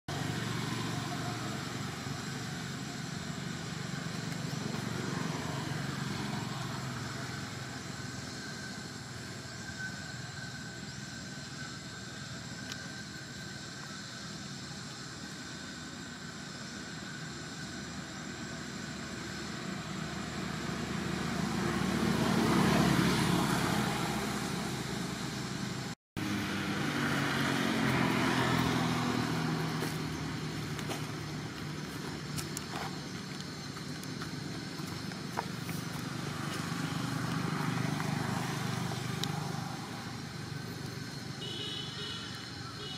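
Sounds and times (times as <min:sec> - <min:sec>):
outdoor background rumble: 0:00.0 - 0:42.9.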